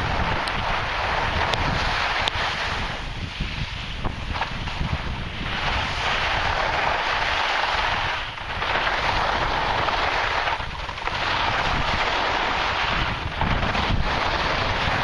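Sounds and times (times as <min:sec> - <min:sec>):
skis scraping across snow: 0:00.0 - 0:15.0
wind rumbling on microphone: 0:00.0 - 0:15.0.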